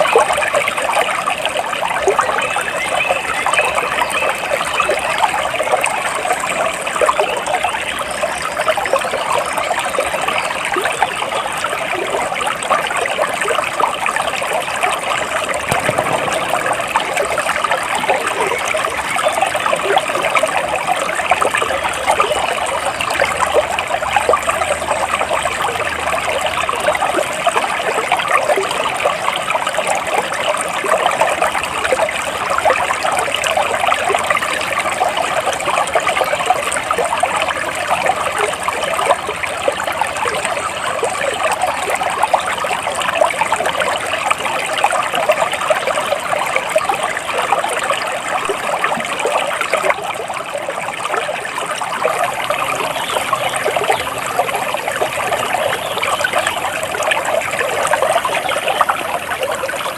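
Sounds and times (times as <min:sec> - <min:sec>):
water babbling: 0:00.0 - 0:59.9.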